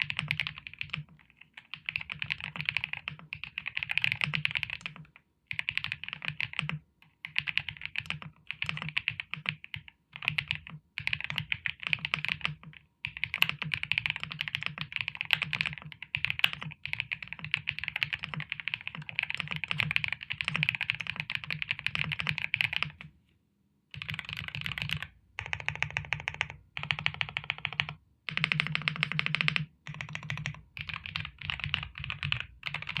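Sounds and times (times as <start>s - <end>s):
mechanical keyboard typing: 0.0s - 23.1s, 23.9s - 33.0s.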